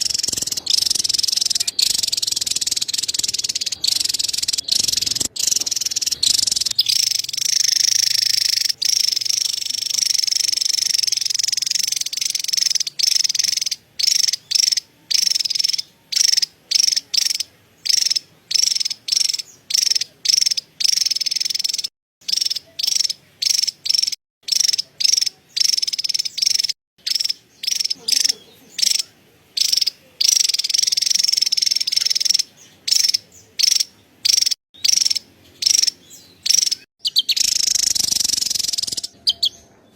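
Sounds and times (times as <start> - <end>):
bird high-pitched chattering call: 0.0 - 39.9.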